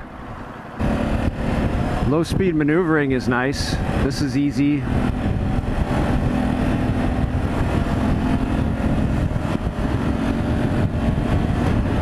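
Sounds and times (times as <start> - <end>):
motorcycle engine droning: 0.8 - 12.0.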